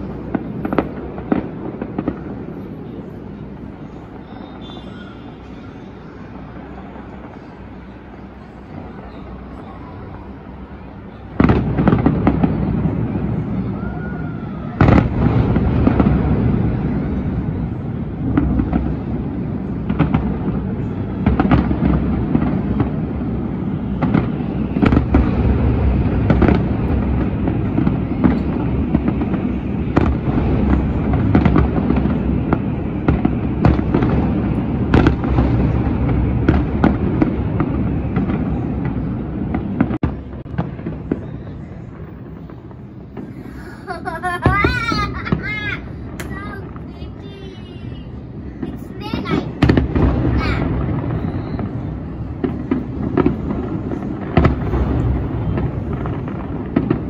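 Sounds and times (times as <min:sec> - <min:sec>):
fireworks bursts and cracks: 0:00.0 - 0:57.0.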